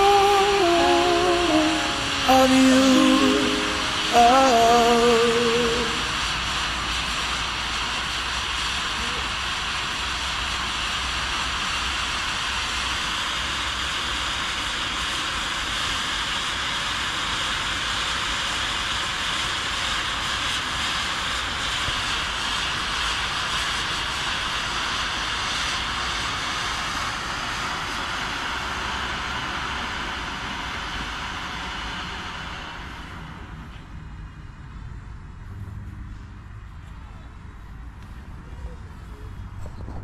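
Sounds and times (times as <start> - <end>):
firework fountains hissing: 0.0 - 33.0.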